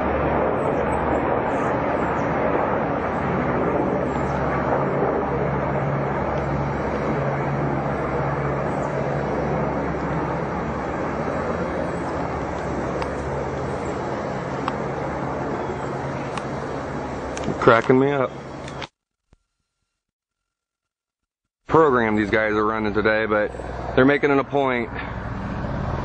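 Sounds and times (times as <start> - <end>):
helicopter flying overhead: 0.0 - 18.9, 21.7 - 26.0.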